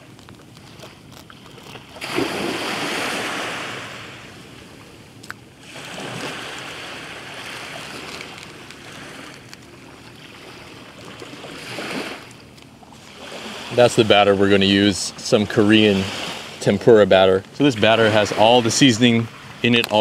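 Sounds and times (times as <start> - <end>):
small waves washing on shore: 0.0 - 20.0.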